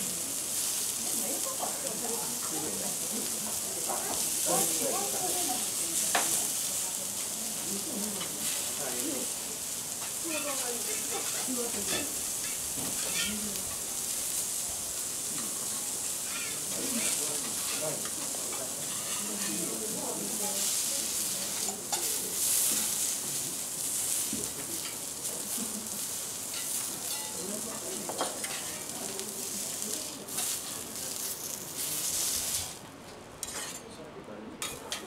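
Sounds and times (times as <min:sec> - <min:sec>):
food sizzling on griddle: 0:00.0 - 0:33.8, 0:34.6 - 0:35.0.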